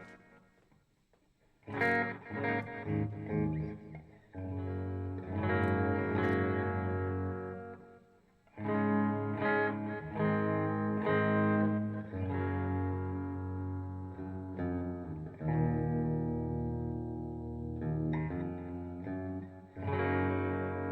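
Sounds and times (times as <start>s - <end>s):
electric guitar notes and chords: 0.0s - 0.4s, 1.6s - 20.9s.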